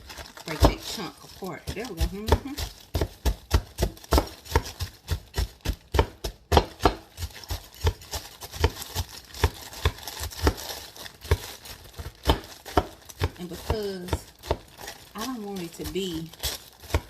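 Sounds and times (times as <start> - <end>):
knife knocking frozen peas: 0.3 - 17.0.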